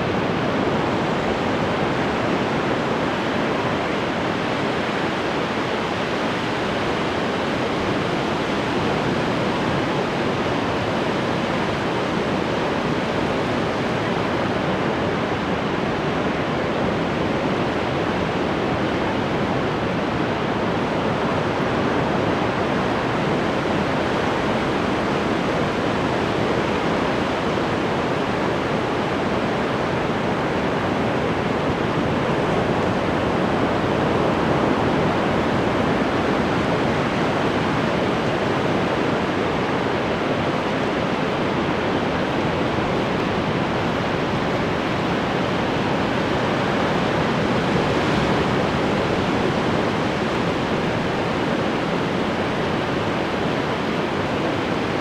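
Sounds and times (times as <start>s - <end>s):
ocean waves on shore: 0.0s - 55.0s.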